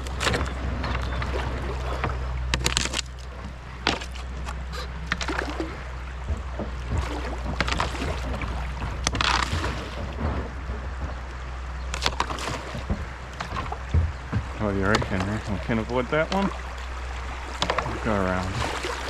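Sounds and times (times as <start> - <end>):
paddle or hull knocks: 0.0 - 19.0
paddle strokes splashing: 0.0 - 19.0
rushing water: 0.0 - 19.0.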